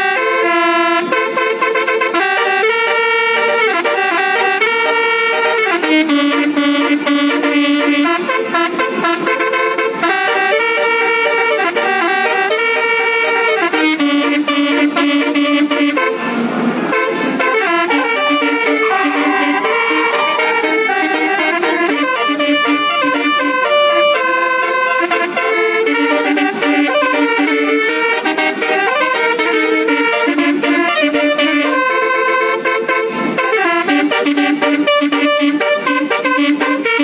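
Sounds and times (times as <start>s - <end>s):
musical bus air horn melody: 0.0s - 37.0s.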